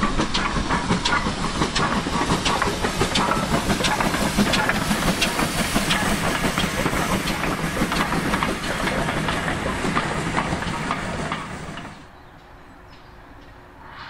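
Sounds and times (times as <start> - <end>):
wheels clattering over rail joints: 0.0 - 12.5.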